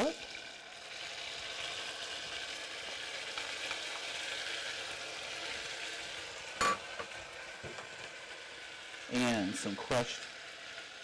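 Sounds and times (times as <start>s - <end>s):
sauce sizzling in a saucepan: 0.0s - 11.0s.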